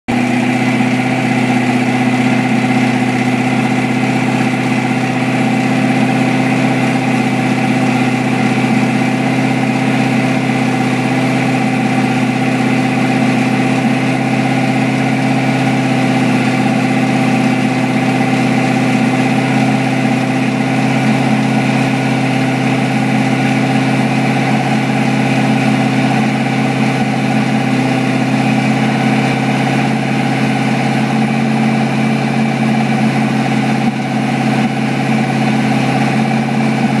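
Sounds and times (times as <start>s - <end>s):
car engine idling: 0.1s - 37.0s.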